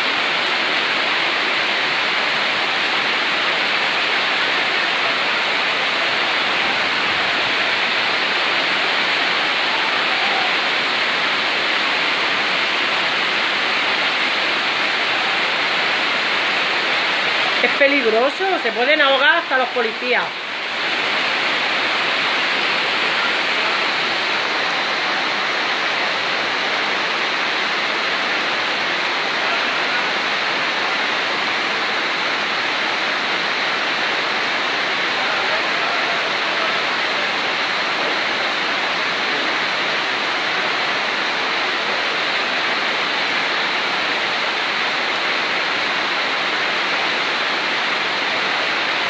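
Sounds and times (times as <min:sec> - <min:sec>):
floodwater rushing down street: 0:00.0 - 0:49.0
torrential rain: 0:00.0 - 0:49.0.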